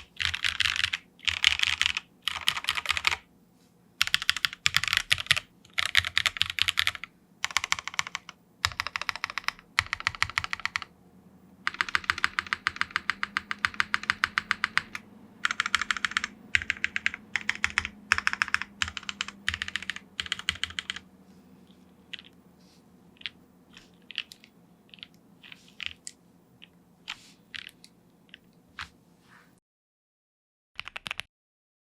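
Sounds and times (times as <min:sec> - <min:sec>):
typing on mechanical keyboard: 0:00.0 - 0:03.2, 0:04.0 - 0:10.9, 0:11.7 - 0:21.0, 0:22.1 - 0:22.3, 0:23.2 - 0:28.6, 0:30.8 - 0:31.3.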